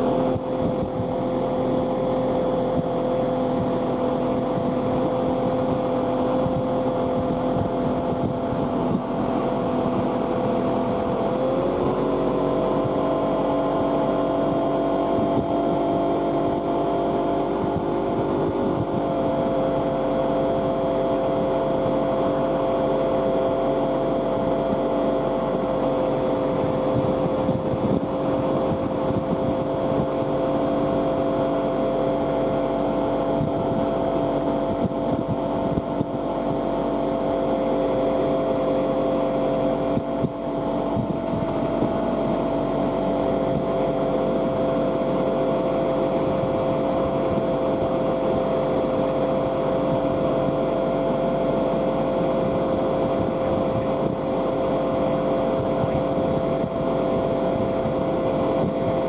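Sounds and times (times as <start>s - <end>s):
outboard motor running: 0.0s - 59.0s
rush of wake and spray: 0.0s - 59.0s.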